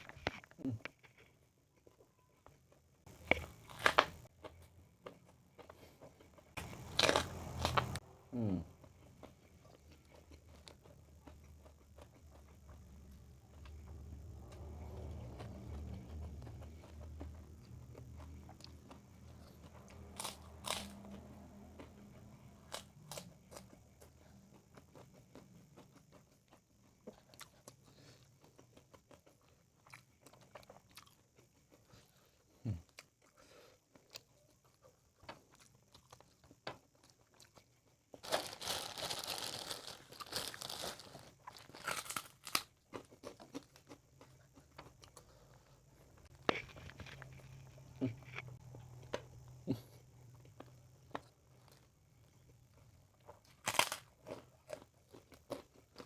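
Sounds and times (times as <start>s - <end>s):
chewing crispy fried fish: 0.0s - 56.0s.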